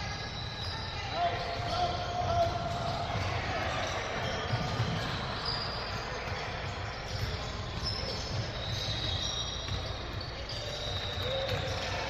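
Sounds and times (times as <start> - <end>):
crowd noise: 0.0 - 12.0
sneakers squeaking on floor: 0.0 - 12.0
ball bouncing on a court: 0.6 - 12.0.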